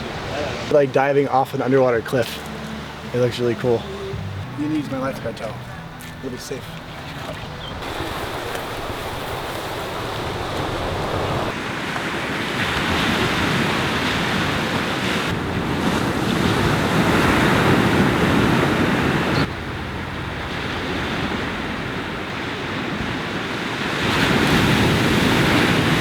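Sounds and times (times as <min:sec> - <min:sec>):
ocean surf: 0:00.0 - 0:26.0
wind buffeting microphone: 0:04.4 - 0:26.0.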